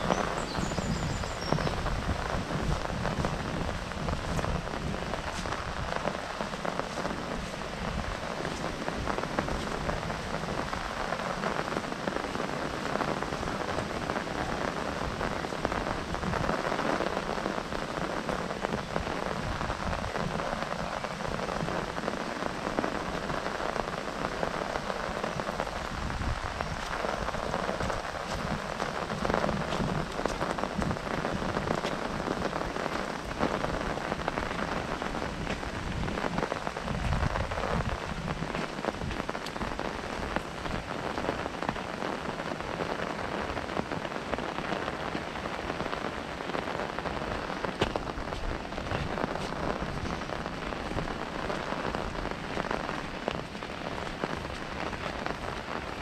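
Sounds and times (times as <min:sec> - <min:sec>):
rain pattering on umbrella: 0:00.0 - 0:56.0
wind gusts: 0:00.0 - 0:56.0.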